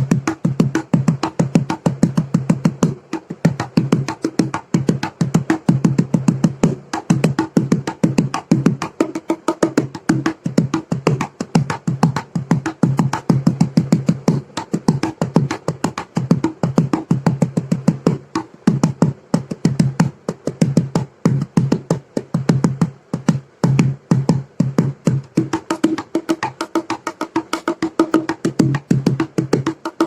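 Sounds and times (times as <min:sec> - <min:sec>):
cajon played by hand: 0:00.0 - 0:30.0.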